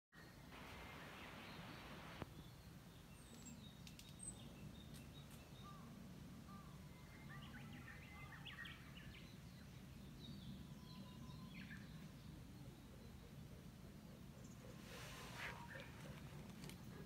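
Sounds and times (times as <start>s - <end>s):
faint bird chirps: 0.2s - 17.0s.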